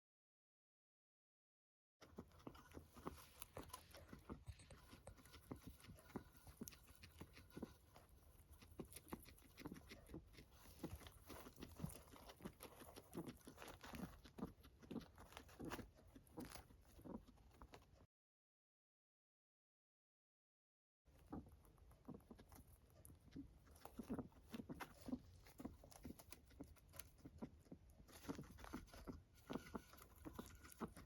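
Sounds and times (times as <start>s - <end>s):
guinea pig breathing with clicks: 2.0s - 18.1s, 21.1s - 31.0s.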